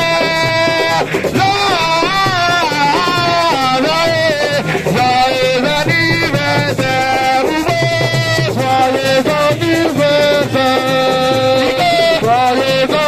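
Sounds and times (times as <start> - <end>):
percussion: 0.0 - 13.0
person singing ornamented notes: 0.0 - 13.0.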